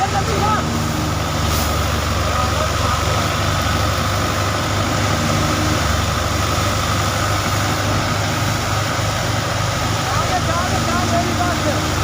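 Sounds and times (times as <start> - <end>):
high machinery whine: 0.0 - 12.0
tractor engine running: 0.0 - 12.0.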